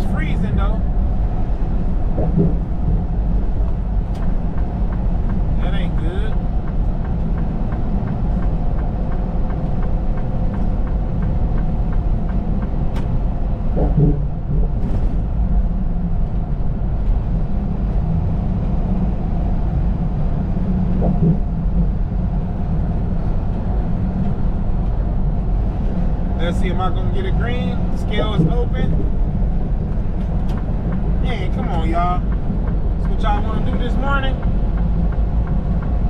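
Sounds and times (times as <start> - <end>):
truck engine and road rumble: 0.0 - 36.0.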